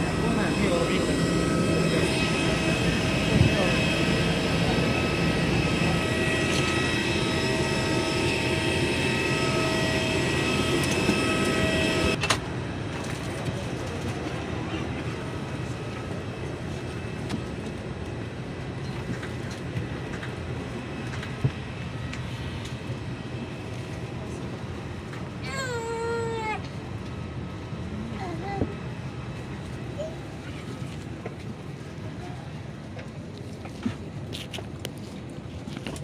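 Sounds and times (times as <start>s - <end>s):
airliner cabin hum: 0.0s - 36.0s
jet aircraft whine: 0.0s - 36.0s.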